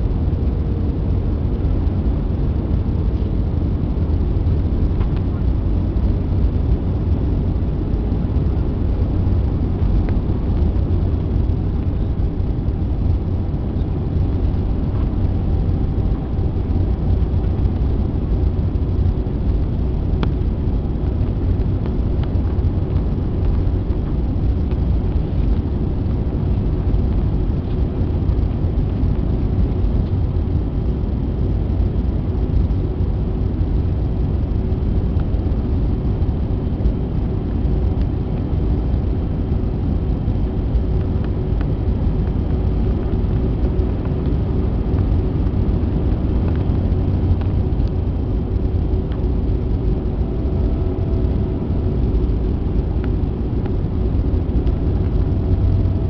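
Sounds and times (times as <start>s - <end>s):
faint steady hum: 0.0s - 56.0s
jet engine and airflow rumble: 0.0s - 56.0s.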